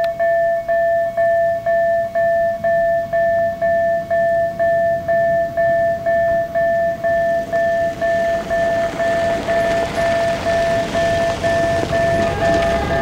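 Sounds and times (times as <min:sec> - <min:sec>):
level crossing warning tone pulses: 0:00.0 - 0:13.0
approaching freight train: 0:00.1 - 0:13.0.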